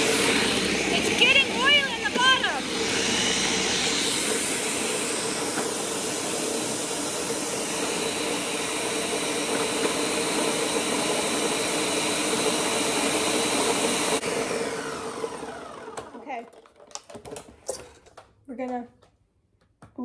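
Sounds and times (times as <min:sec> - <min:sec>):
blender grinding nuts: 0:00.0 - 0:18.3.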